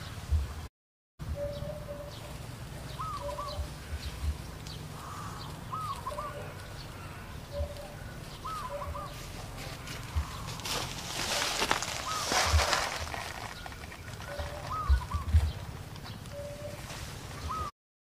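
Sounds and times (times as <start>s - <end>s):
birds calling: 1.2s - 17.7s.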